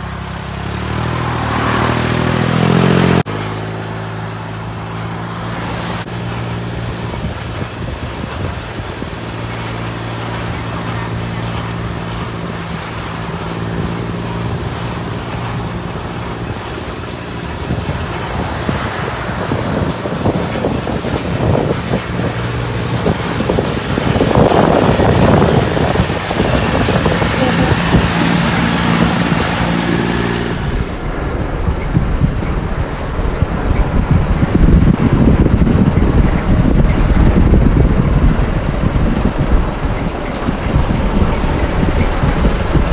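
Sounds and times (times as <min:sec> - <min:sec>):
tractor diesel engine running: 0:00.0 - 0:42.9
wind across microphone: 0:04.6 - 0:42.9.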